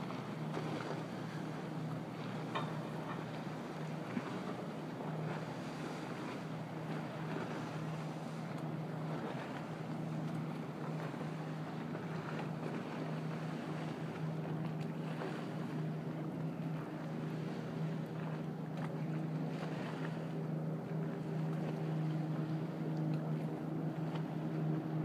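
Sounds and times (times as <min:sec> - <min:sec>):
boat engine humming: 0:00.0 - 0:25.0
wind and water rushing: 0:00.0 - 0:25.0.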